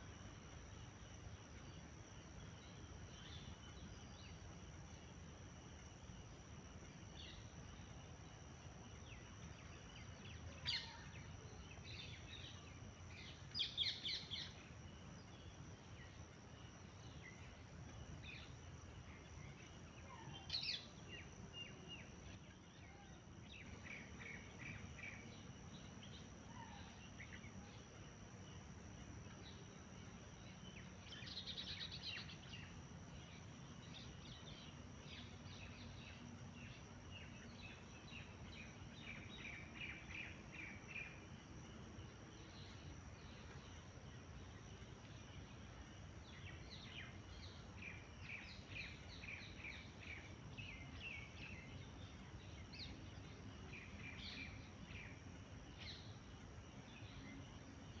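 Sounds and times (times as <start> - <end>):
low background hiss: 0.0 - 58.0.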